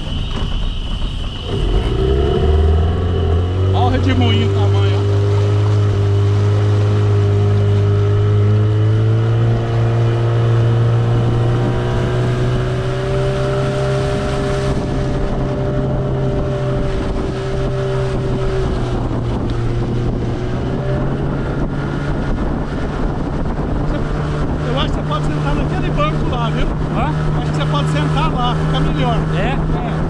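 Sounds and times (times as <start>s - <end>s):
outboard motor running: 0.0s - 30.0s
wind buffeting microphone: 0.0s - 30.0s.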